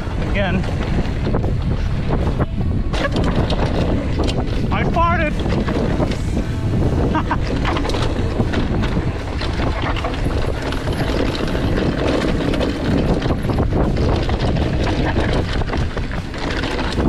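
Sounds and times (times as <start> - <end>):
bike chain and frame rattling: 0.0 - 17.0
wind rushing over microphone: 0.0 - 17.0.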